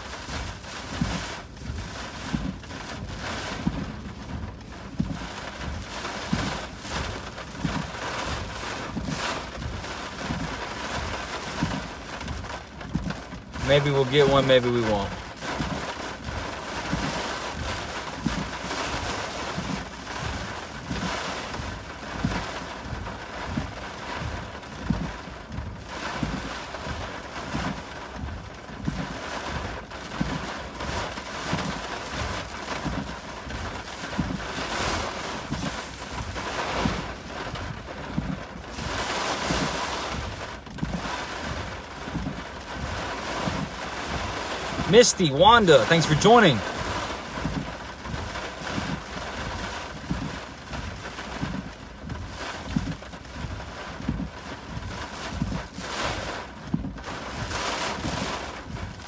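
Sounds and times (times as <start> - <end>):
rain on car: 0.0 - 59.0
storm wind gusting against car: 0.0 - 59.0.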